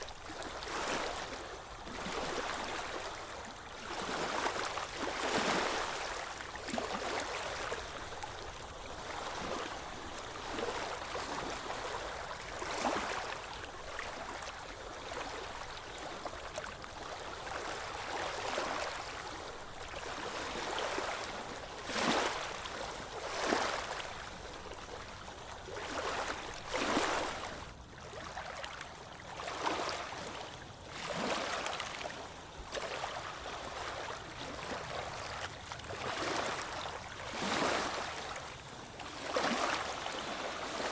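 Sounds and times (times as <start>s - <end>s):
ocean waves washing onto beach: 0.0s - 40.9s.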